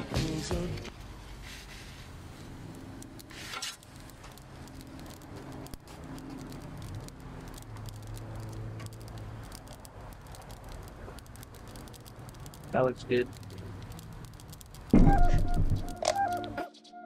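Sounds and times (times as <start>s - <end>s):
gas oven flame: 0.5s - 16.0s
food crackling and ticking: 2.0s - 16.6s.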